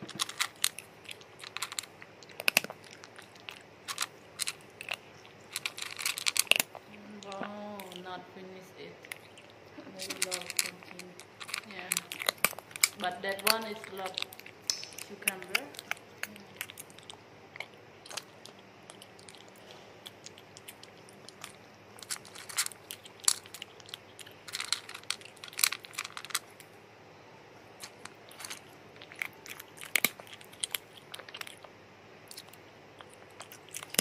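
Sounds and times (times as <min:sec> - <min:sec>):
rat gnawing and chewing: 0:00.0 - 0:26.8, 0:27.6 - 0:34.0.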